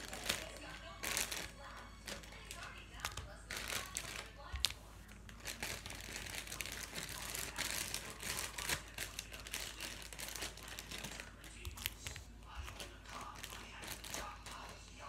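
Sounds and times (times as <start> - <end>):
crinkling and crackling: 0.0 - 15.0.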